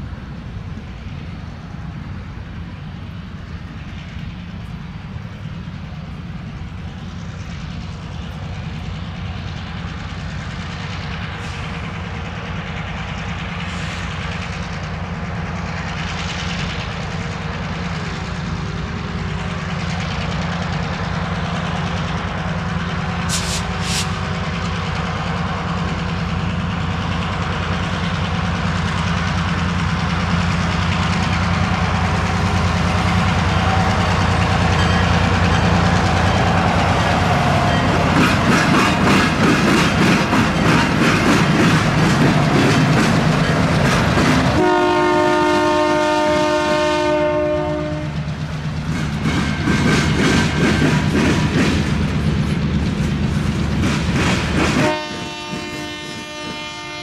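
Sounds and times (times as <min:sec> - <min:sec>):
diesel locomotive engine rumble: 0:00.0 - 0:57.0
wheels clacking over rail joints: 0:04.1 - 0:56.8.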